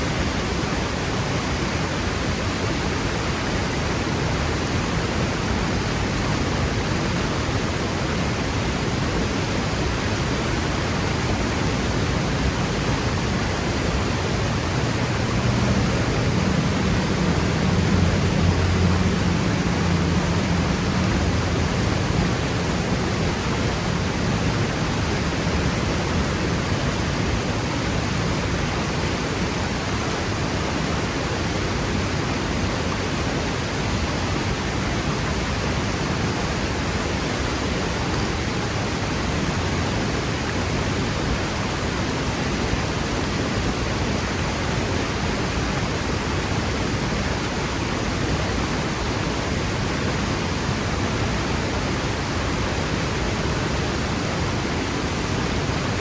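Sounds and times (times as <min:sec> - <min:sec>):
waterfall crashing: 0:00.0 - 0:56.0.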